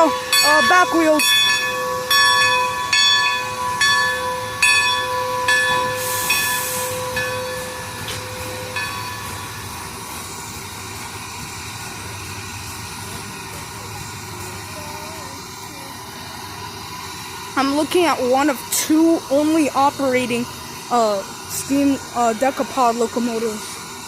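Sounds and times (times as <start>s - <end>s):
locomotive bell ringing: 0.0s - 23.7s
steam hiss: 0.1s - 24.0s.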